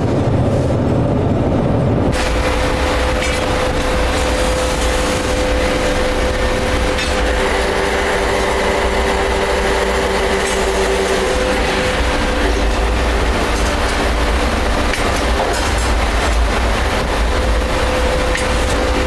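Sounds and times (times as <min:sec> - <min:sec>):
industrial machinery rumble and whine: 0:00.0 - 0:19.0
lower machine whine: 0:00.0 - 0:19.0.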